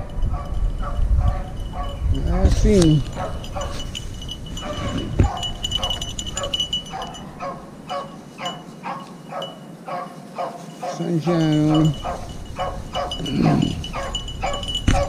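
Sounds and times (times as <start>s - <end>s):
dogs baying: 0.0s - 15.0s.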